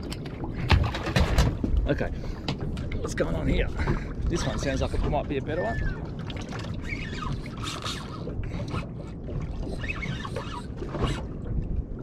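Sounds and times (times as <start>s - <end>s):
waves slapping boat hull: 0.0s - 12.0s
wind: 0.0s - 12.0s.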